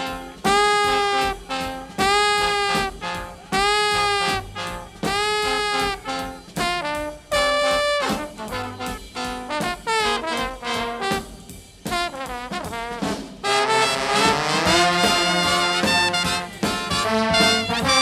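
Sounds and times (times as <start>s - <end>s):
jazz music with brass: 0.0s - 18.0s.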